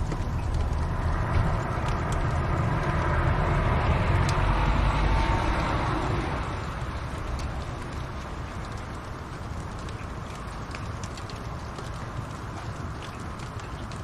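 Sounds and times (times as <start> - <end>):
fire crackles: 0.0 - 14.0
wood fire burning: 0.0 - 14.0.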